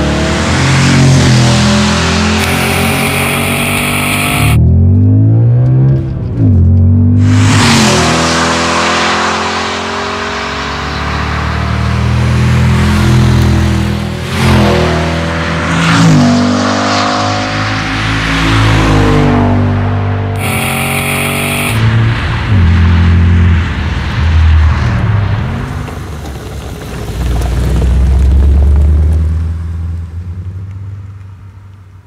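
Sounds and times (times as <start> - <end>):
car engine and exhaust accelerating: 0.0 - 31.7.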